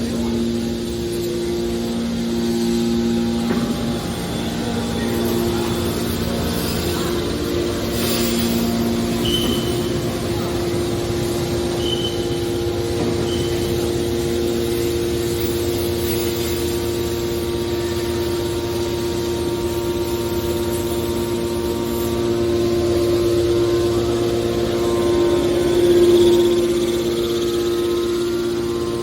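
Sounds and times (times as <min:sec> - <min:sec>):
hydraulic baler pump hum: 0:00.0 - 0:29.0.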